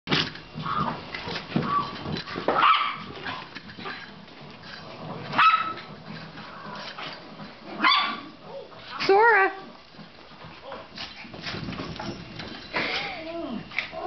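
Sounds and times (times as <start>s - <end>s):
small dogs play-fighting: 0.1s - 14.0s.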